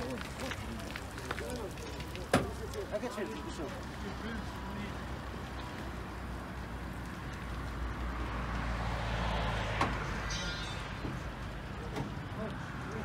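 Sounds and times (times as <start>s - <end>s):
traffic noise rush: 0.0s - 13.0s.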